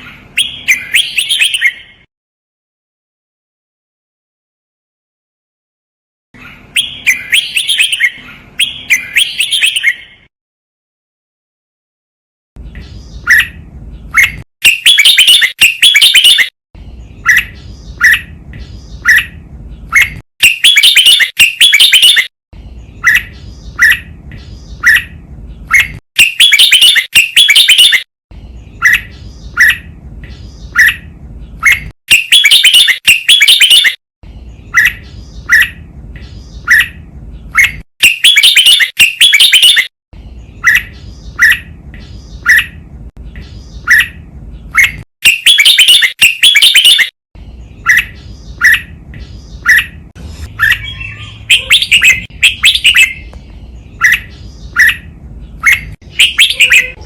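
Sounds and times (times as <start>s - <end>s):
bulbul singing: 0.0s - 2.1s, 6.4s - 10.3s, 12.6s - 57.0s.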